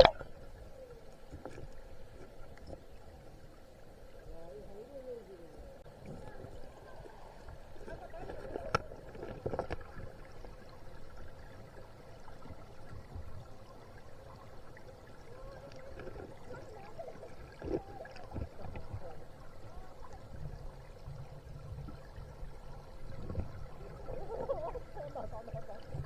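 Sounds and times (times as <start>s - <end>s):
water flowing and gurgling: 0.0s - 26.0s.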